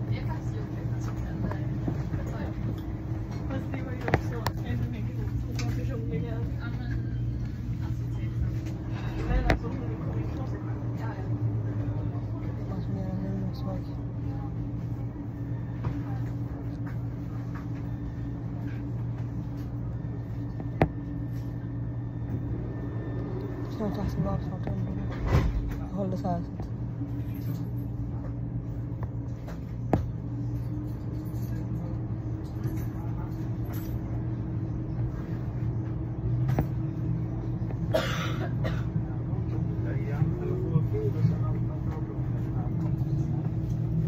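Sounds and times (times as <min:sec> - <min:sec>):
vehicle hum: 0:00.0 - 0:44.0.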